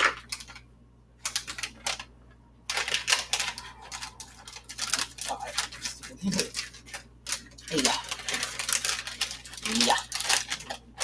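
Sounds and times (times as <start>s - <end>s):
plastic packet crackling: 0.0s - 11.0s.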